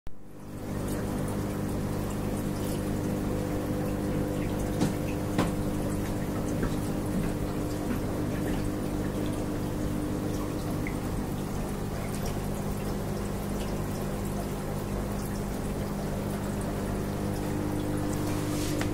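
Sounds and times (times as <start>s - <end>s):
aquarium filter motor hum: 0.1s - 18.9s
water trickling and bubbling: 0.3s - 18.9s.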